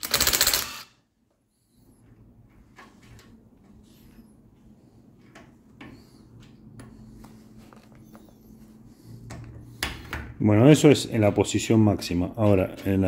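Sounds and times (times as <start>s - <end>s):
faint steady hum: 1.0s - 12.8s.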